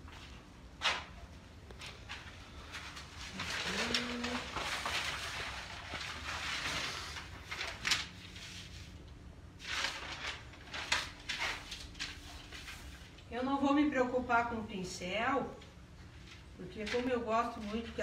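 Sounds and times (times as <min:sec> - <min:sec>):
paper rustling and crinkling: 0:00.0 - 0:13.3, 0:16.0 - 0:18.0.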